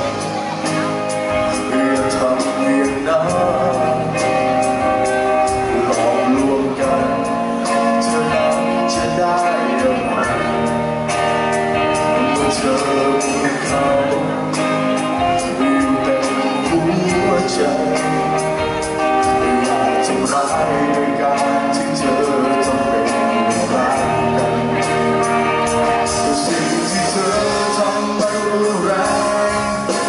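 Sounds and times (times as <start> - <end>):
electric guitar: 0.0 - 30.0
sustained lead melody: 0.0 - 30.0.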